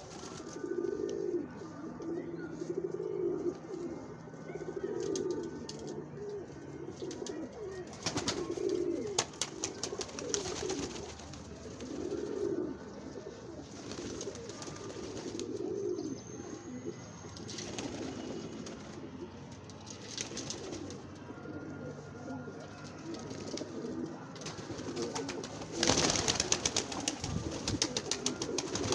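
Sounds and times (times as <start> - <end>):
doves cooing: 0.0 - 28.9.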